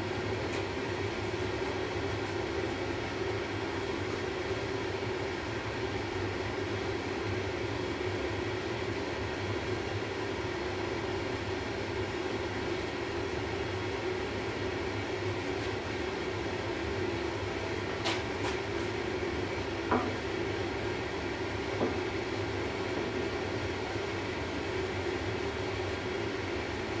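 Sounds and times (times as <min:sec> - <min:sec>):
gas forge burners rushing: 0:00.0 - 0:27.0.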